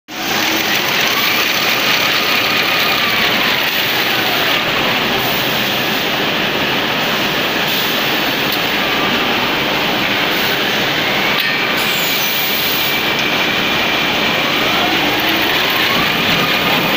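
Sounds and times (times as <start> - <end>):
machinery running loudly: 0.1 - 16.9.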